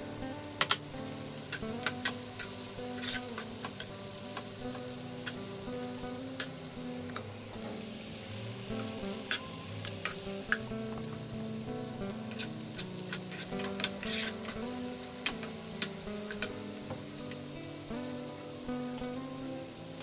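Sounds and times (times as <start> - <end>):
soft background music: 0.0 - 20.0
vegetables sizzling in frying pan: 0.0 - 20.0.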